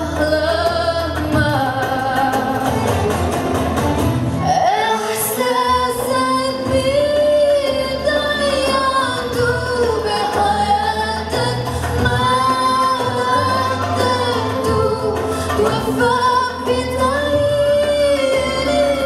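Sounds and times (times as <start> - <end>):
woman singing into microphone: 0.0 - 3.4, 4.3 - 19.0.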